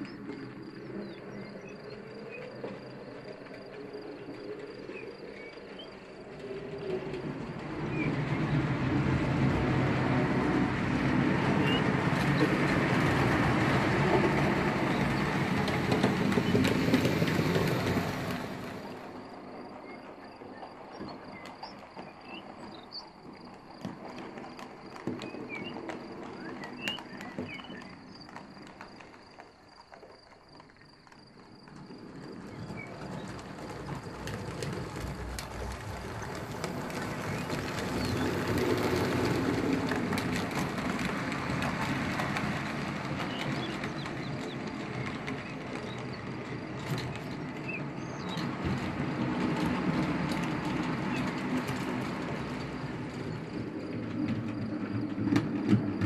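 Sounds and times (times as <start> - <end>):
clicks over rail joints: 0.0 - 56.0
model train rumbling: 0.0 - 56.0.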